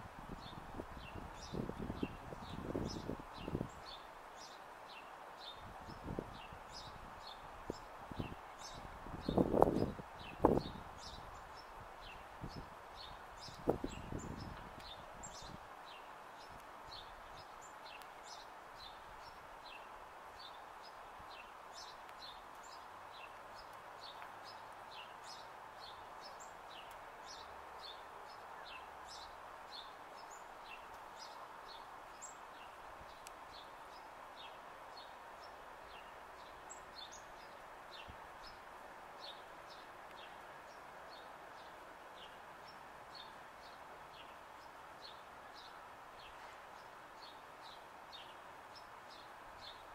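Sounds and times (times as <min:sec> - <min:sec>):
faint background hiss: 0:00.0 - 0:49.9
small birds chirping: 0:00.3 - 0:49.9.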